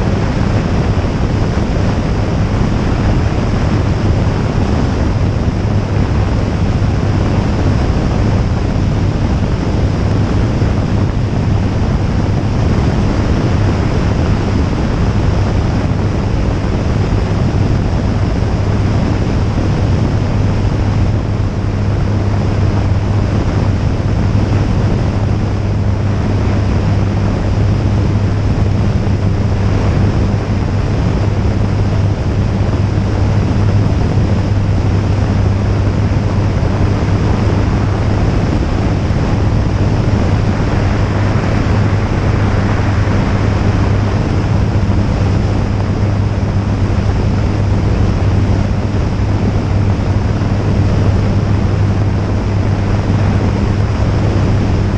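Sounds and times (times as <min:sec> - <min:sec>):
light aircraft engine drone: 0:00.0 - 0:54.9
wind rush over microphone: 0:00.0 - 0:54.9.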